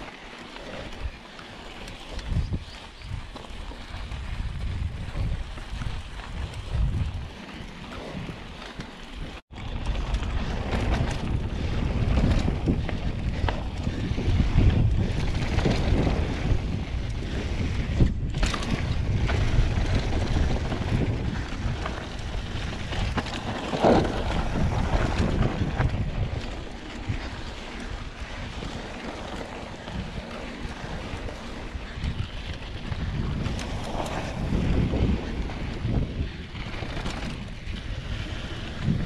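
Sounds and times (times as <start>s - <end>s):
tyres rumbling over gravel: 0.0s - 39.0s
wind rushing over microphone: 2.1s - 8.6s, 9.2s - 39.0s
bike knocks and rattles: 2.3s - 39.0s.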